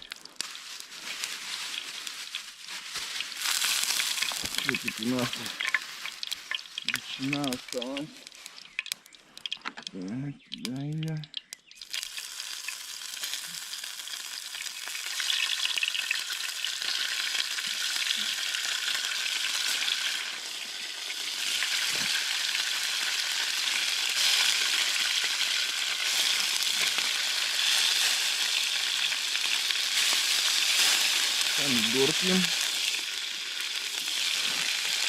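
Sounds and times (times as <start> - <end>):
ham sizzling in a pan: 0.0 - 9.9, 11.4 - 35.0.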